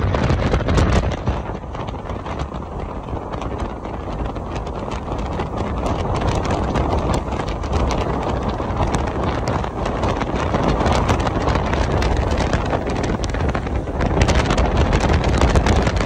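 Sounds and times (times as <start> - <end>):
crackles from wind gusts: 0.0 - 16.0
road noise: 0.0 - 16.0
wind buffeting microphone: 0.0 - 16.0.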